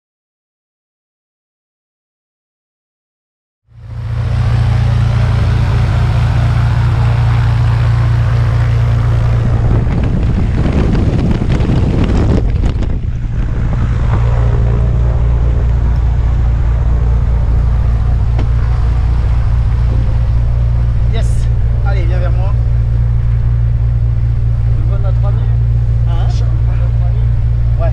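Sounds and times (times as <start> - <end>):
small plane engine running: 3.7 - 27.9
propeller wash buffeting microphone: 3.8 - 27.9.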